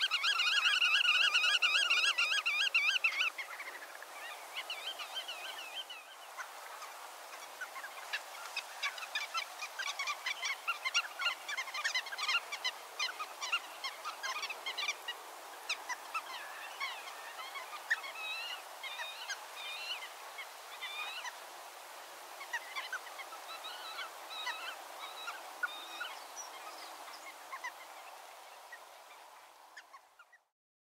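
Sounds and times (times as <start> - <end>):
wetland birds calling: 0.0 - 21.4, 22.4 - 30.4.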